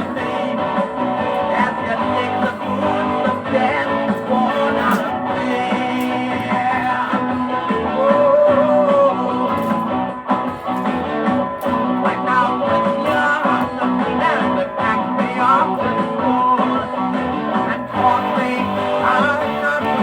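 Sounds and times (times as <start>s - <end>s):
bass and drums: 0.0s - 20.0s.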